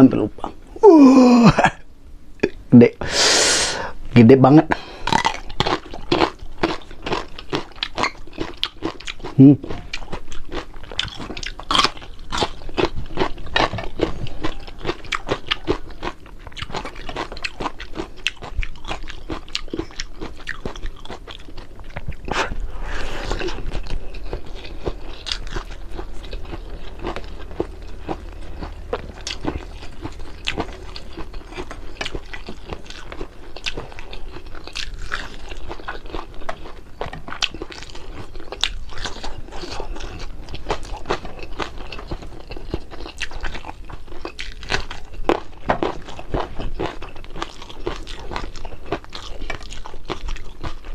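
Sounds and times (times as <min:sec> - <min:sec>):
crunching and chewing fried fish: 0:04.8 - 0:50.9.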